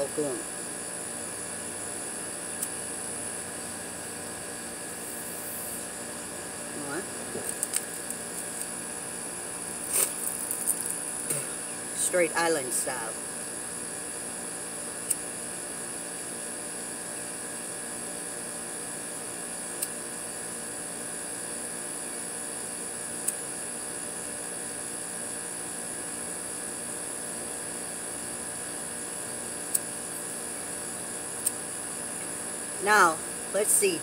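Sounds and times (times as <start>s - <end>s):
mechanical hum: 0.0s - 34.0s.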